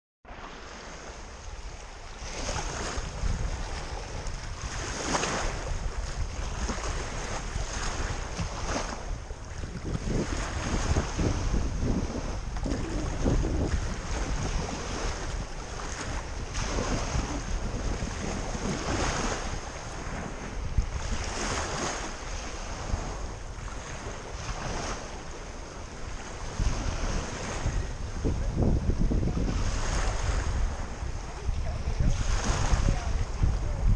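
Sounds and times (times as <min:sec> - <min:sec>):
sea waves washing in: 0:00.3 - 0:33.9
wind buffeting microphone: 0:00.6 - 0:33.9.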